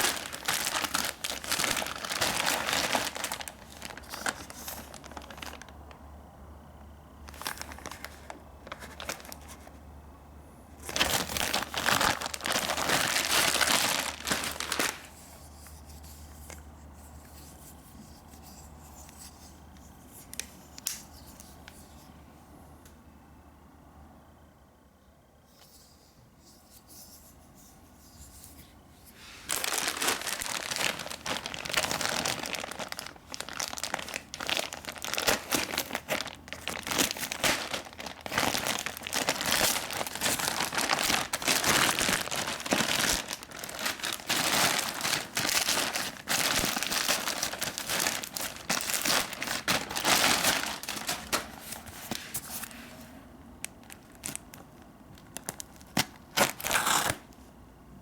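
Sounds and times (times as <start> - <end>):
crinkling of wrapping: 0.0 - 6.0, 7.2 - 9.8, 10.8 - 22.0, 28.6 - 53.0, 53.6 - 57.4.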